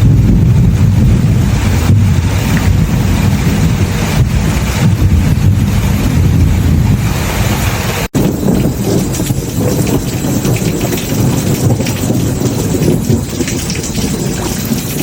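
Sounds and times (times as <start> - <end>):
deep rumble: 0.0 - 15.0
wind buffeting microphone: 0.0 - 15.0.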